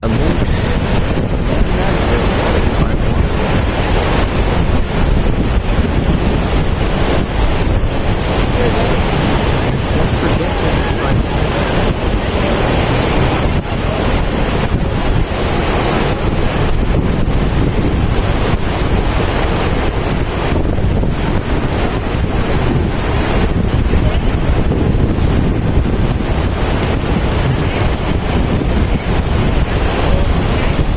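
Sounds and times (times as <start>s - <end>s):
water rushing down waterfall: 0.0s - 30.9s
wind buffeting microphone: 0.0s - 30.9s.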